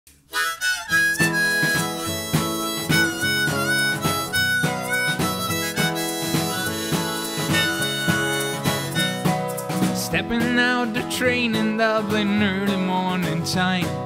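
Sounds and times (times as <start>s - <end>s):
harmonica melody: 0.3s - 12.1s
strummed acoustic guitar: 0.4s - 14.0s.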